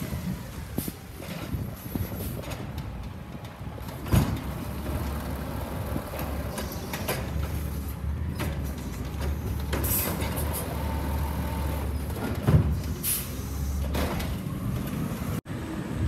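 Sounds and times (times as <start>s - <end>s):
garbage truck engine droning: 2.6s - 16.0s.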